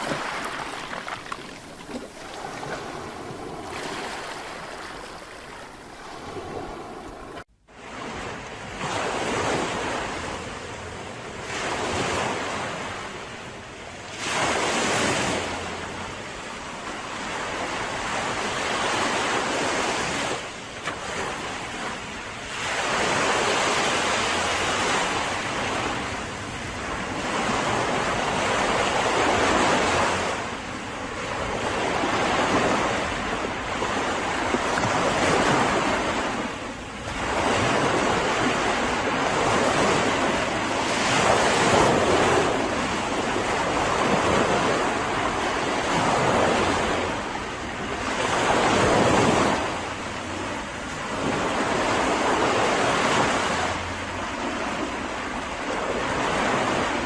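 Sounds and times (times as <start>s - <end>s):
waves washing onto a beach: 0.0s - 57.0s.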